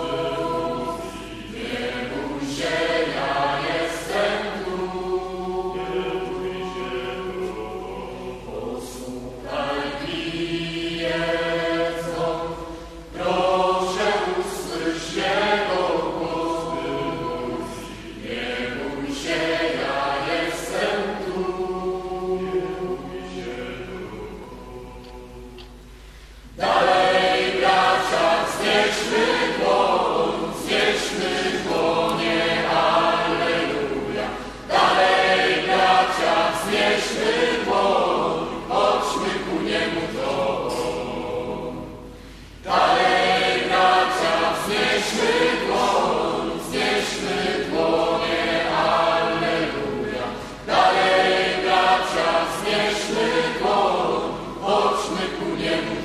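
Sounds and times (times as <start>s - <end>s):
group of voices singing: 0.0s - 56.0s.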